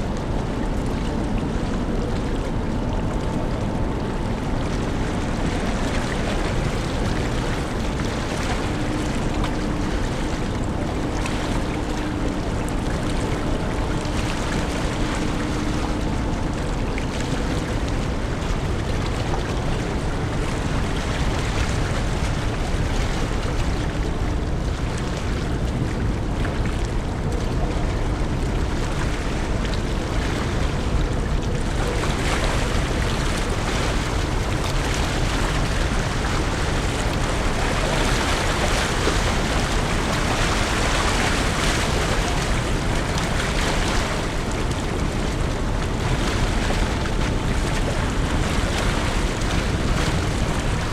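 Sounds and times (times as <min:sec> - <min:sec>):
deep ship rumble: 0:00.0 - 0:50.9
faint steady hum: 0:00.0 - 0:50.9
wind and water rushing: 0:00.0 - 0:50.9.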